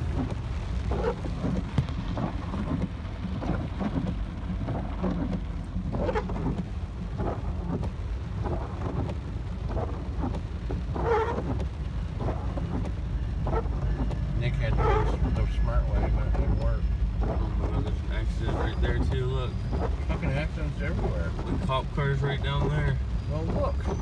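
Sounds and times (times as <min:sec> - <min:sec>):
heavy rain pouring: 0:00.0 - 0:24.0
low rumble: 0:00.0 - 0:24.0.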